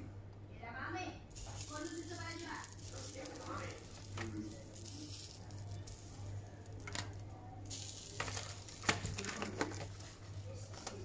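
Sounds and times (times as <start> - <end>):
soft steady hiss: 0.0 - 11.0.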